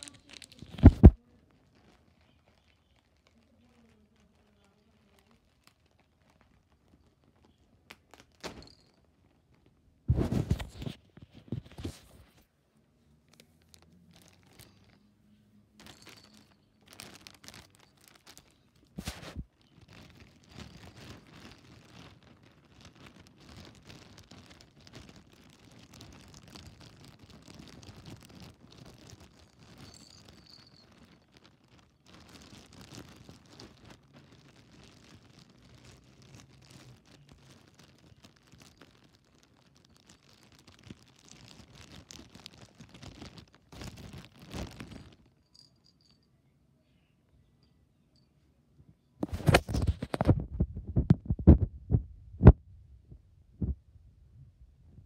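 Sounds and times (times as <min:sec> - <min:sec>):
packaging crinkling and rustling: 0:00.0 - 0:12.5, 0:13.2 - 0:45.6, 0:49.2 - 0:52.5.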